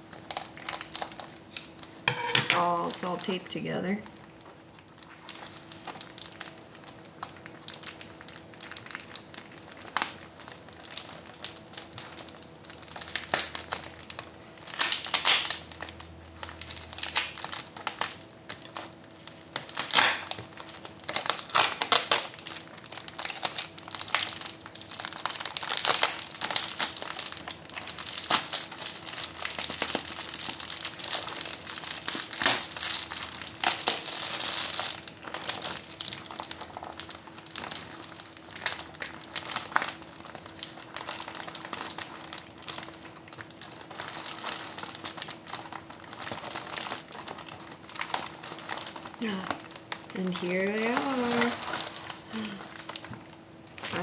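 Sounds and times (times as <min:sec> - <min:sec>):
foil mailer crinkling: 0:00.0 - 0:54.0.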